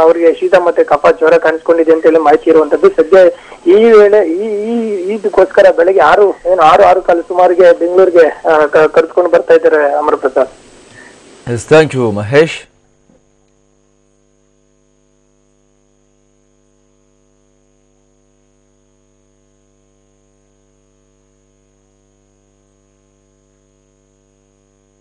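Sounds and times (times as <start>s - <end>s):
faint electrical mains hum: 0.0s - 25.0s.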